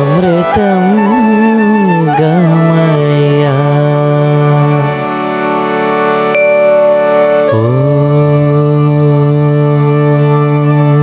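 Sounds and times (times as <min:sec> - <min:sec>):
long held devotional note: 0:00.0 - 0:11.0.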